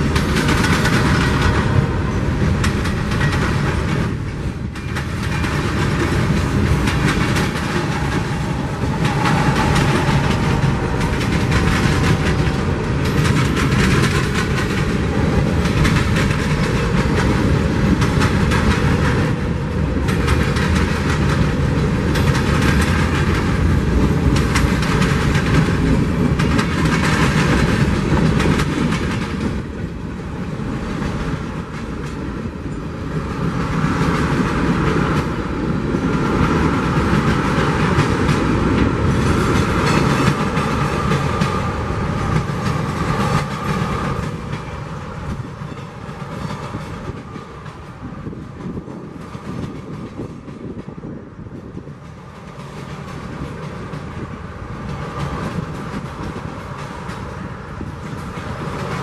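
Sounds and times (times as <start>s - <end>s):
freight train rumbling past: 0.0s - 59.0s
steel wheels clattering on rails: 0.0s - 59.0s.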